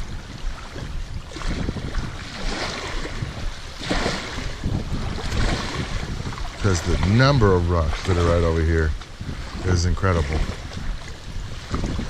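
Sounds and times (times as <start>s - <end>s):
river waves lapping on rocks: 0.0s - 12.0s
wind rumbling on microphone: 0.0s - 12.0s.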